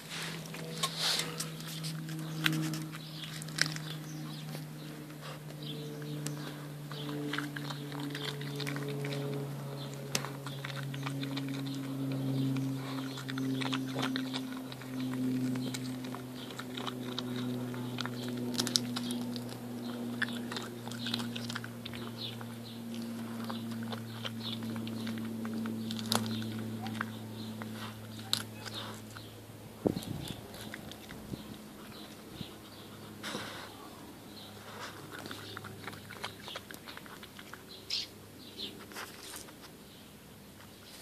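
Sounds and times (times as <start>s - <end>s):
dog crunching pea pods: 0.0s - 41.0s
steady low hum: 0.0s - 41.0s.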